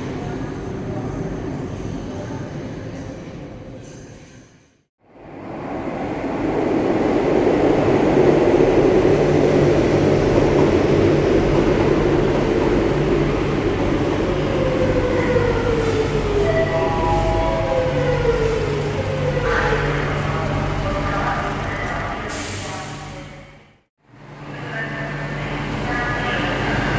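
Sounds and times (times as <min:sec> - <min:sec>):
metro train running: 0:00.0 - 0:26.9.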